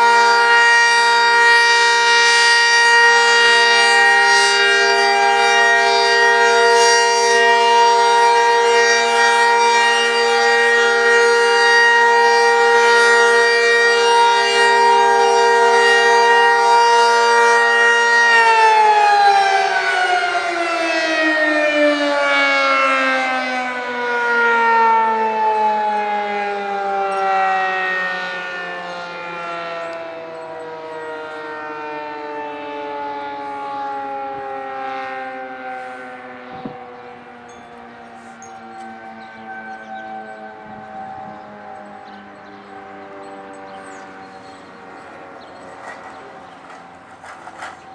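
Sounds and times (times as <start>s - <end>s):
warning siren winding down: 0.0s - 47.9s.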